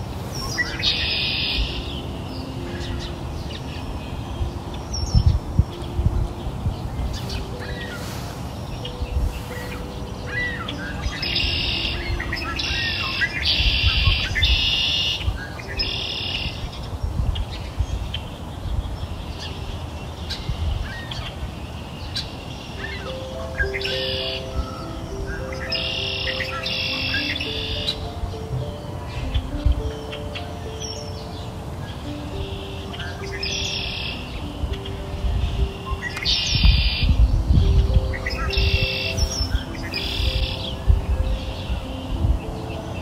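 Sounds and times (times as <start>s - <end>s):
birds chirping and trilling: 0.0s - 43.0s.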